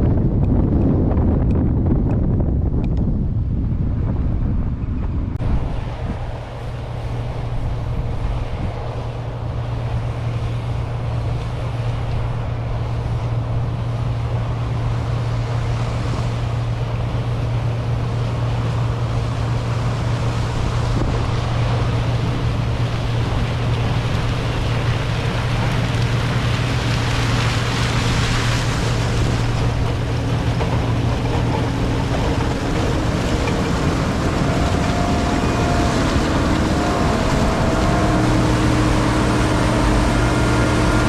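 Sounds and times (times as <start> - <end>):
diesel engine drone: 0.0 - 41.0
wind buffeting microphone: 0.0 - 41.0
broad rushing noise: 3.4 - 41.0.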